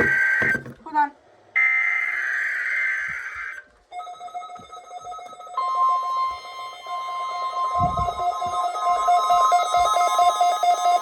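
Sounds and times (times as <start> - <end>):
warning alarm tone: 0.0 - 0.8, 1.6 - 11.0.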